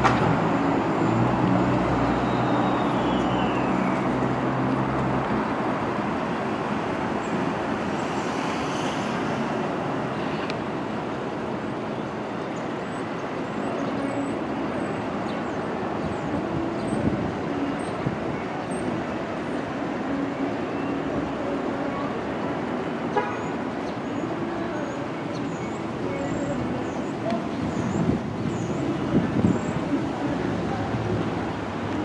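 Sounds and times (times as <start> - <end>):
street traffic: 0.0 - 32.0
subway train rumbling on elevated line: 0.0 - 32.0.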